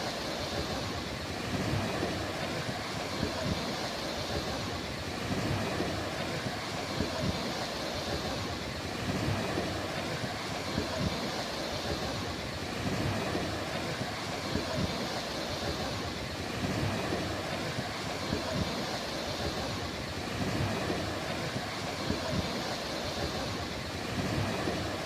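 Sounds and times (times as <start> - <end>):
surf washing onto beach: 0.0 - 25.0.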